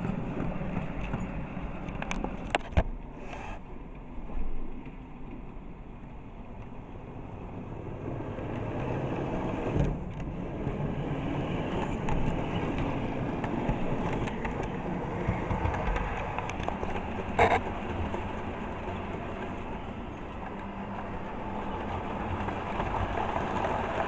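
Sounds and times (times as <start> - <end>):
vehicle engine rumble and road noise: 0.0 - 24.0.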